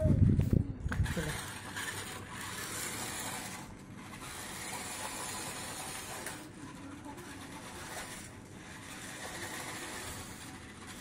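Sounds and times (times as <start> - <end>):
toy truck motors whirring: 0.9 - 11.0.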